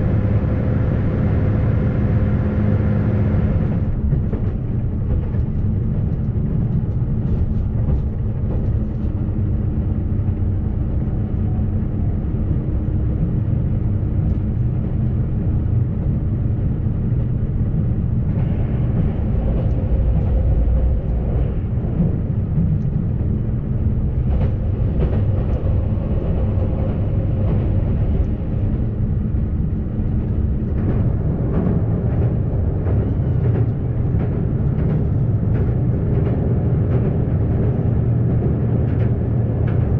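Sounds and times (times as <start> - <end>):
diesel railcar rumbling: 0.0 - 39.9.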